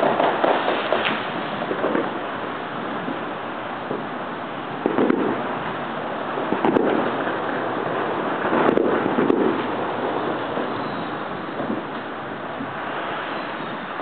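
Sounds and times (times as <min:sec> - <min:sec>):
distant fireworks booming: 0:00.0 - 0:14.0
steady rushing hiss: 0:00.0 - 0:14.0.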